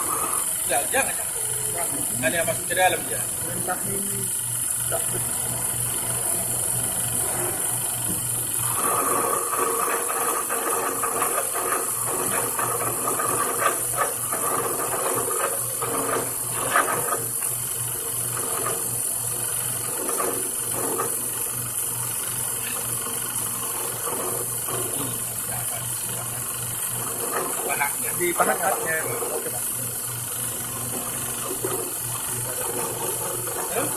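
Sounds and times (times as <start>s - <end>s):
lathe clicking and rattling: 0.0s - 33.9s
lathe motor humming and whining: 0.0s - 33.9s.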